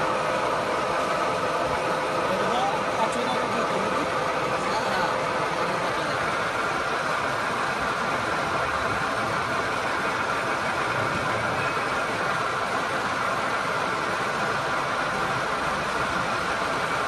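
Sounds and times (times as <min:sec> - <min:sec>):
gear hobbing machine running: 0:00.0 - 0:17.0.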